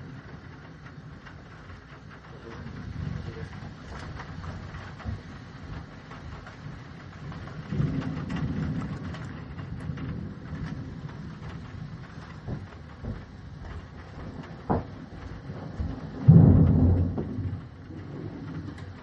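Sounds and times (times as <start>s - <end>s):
rain tapping: 0.0s - 19.0s
thunder rumbling: 0.0s - 19.0s.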